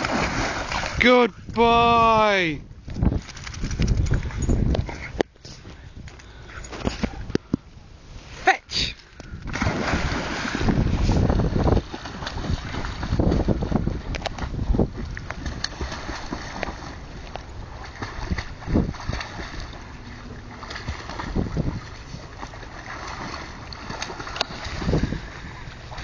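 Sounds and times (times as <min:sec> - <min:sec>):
wind buffeting microphone: 0:00.0 - 0:07.6, 0:09.2 - 0:26.0
water noise: 0:00.0 - 0:26.0.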